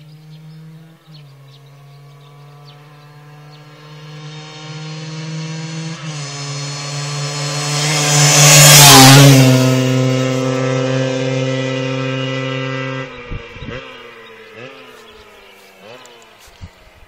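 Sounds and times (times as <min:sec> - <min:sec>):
two-stroke motorcycle engine: 0:00.1 - 0:17.0.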